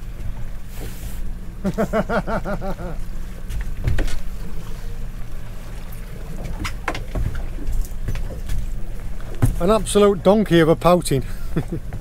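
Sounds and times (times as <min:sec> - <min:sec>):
outboard engine idling: 0:00.0 - 0:12.0.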